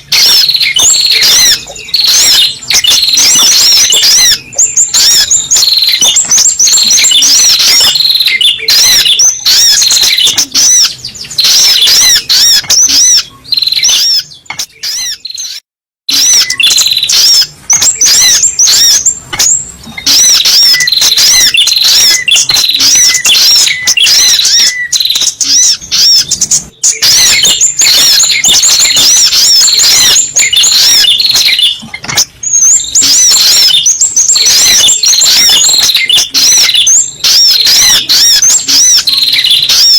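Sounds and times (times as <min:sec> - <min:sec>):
high rapid bird chirping: 0:00.0 - 0:39.9.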